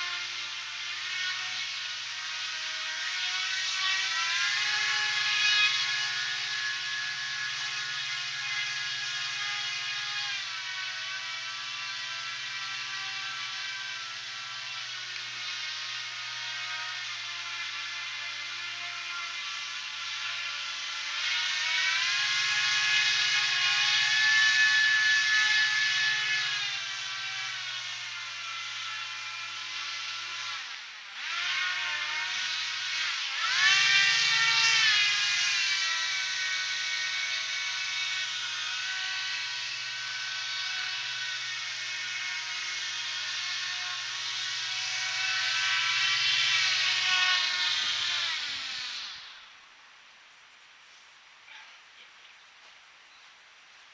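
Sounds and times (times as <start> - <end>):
electric motors and propellers whining: 0.0 - 49.8.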